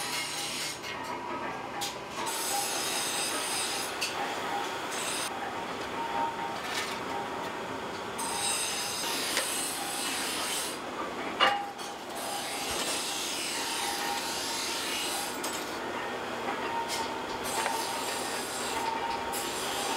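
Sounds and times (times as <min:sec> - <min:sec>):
workshop mechanical noise: 0:00.0 - 0:19.9.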